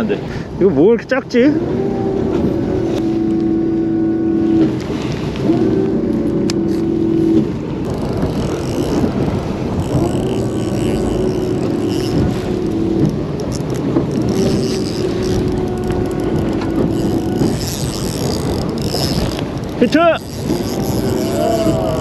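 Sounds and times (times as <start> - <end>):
boat motor hum: 0.0 - 22.0
choppy water: 0.0 - 22.0
wind: 0.0 - 22.0.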